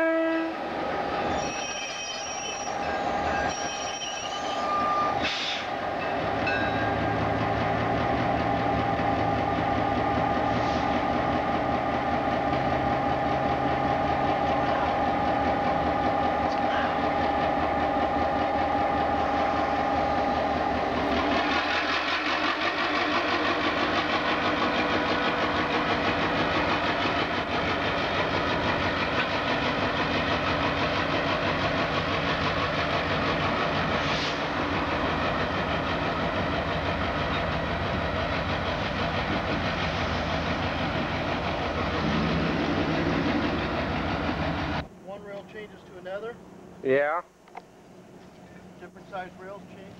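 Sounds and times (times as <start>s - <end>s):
wheel noise on rails: 0.0s - 46.8s
diesel locomotive engine drone: 0.0s - 49.9s.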